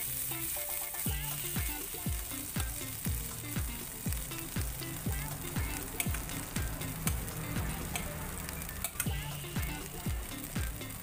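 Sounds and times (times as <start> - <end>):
background music: 0.0 - 11.0
butter sizzling in frying pan: 0.0 - 11.0
deep kick drum beat: 1.1 - 8.1, 9.1 - 11.0.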